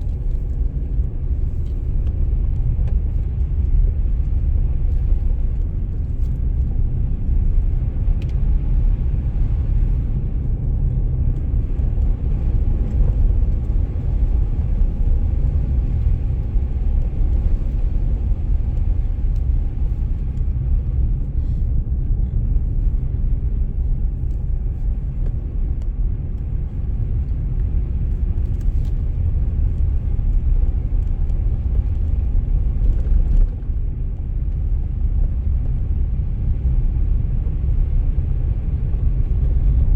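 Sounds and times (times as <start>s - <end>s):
car tyres on snow: 0.0s - 39.9s.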